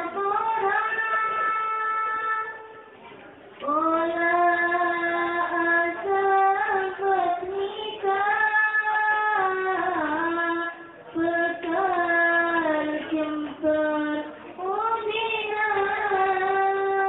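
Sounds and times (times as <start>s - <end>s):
girls singing devotional song: 0.0s - 2.9s, 3.6s - 17.0s.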